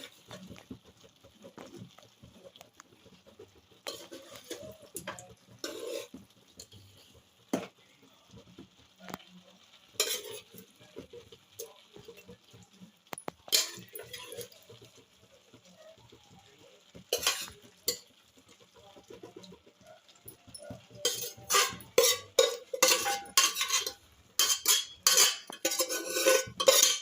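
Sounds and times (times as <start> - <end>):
metal spoon scraping a pot: 0.0 - 7.7, 9.8 - 15.0, 16.8 - 27.0.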